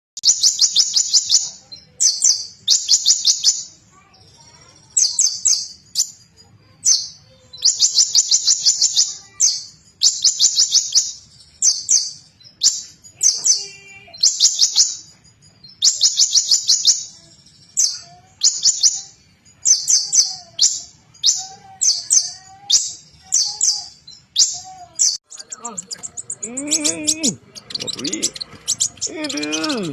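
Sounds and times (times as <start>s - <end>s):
bird chattering trills: 0.2s - 29.9s.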